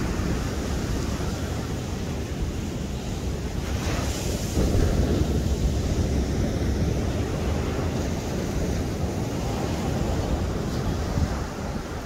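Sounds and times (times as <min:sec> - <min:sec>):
sea waves breaking on shore: 0:00.0 - 0:12.0
wind buffeting microphone: 0:00.0 - 0:12.0.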